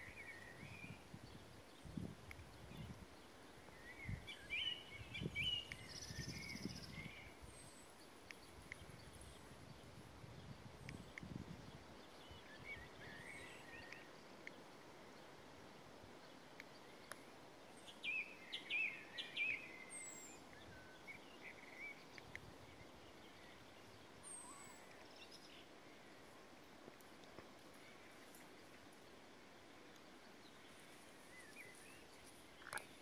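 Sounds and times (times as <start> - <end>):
faint background hiss: 0.0 - 33.0
songbirds singing: 0.0 - 33.0.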